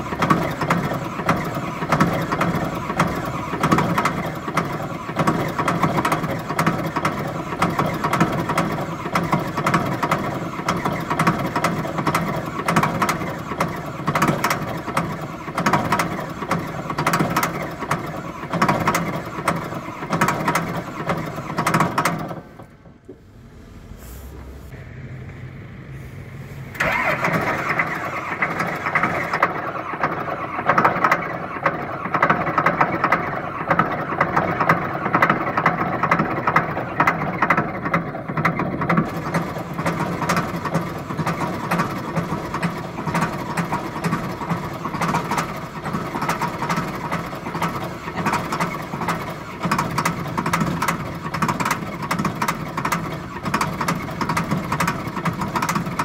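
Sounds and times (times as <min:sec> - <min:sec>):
bulldozer diesel engine running unevenly: 0:00.0 - 0:56.0.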